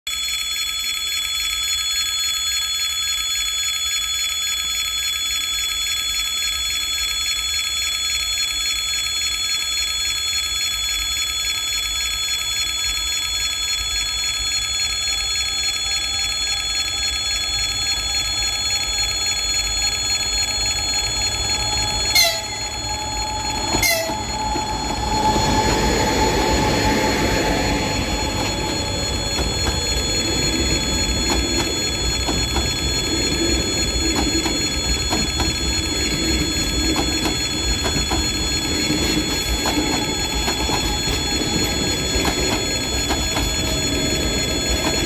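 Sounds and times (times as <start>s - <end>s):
high-pitched ringing tones: 0.0s - 45.0s
electric locomotive hum: 0.2s - 45.0s.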